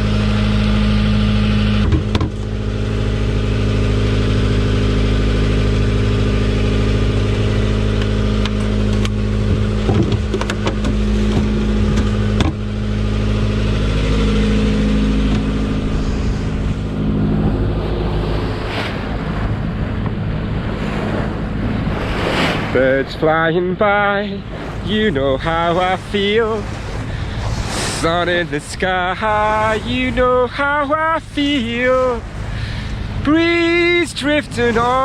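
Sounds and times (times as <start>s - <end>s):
boat engine running: 0.0s - 35.0s
water noise: 0.0s - 35.0s
wind: 0.0s - 35.0s.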